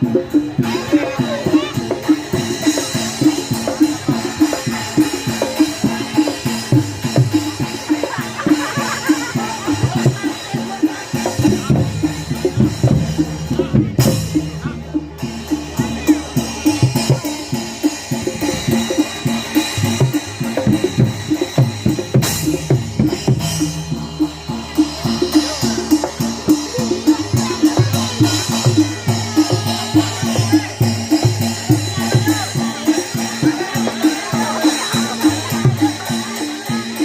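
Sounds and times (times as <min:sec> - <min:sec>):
hand drums playing fast beat: 0:00.0 - 0:37.0
sharp percussion hits: 0:00.0 - 0:37.0.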